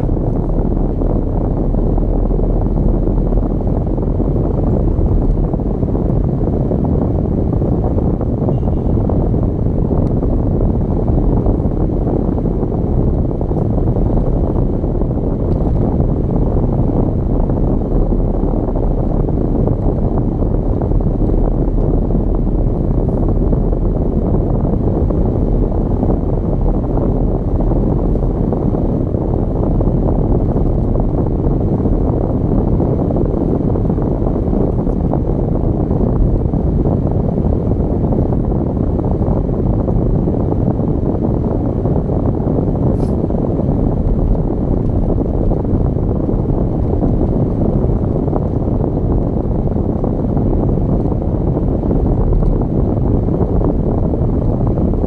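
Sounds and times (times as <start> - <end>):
car driving road and wind noise: 0.0 - 55.0.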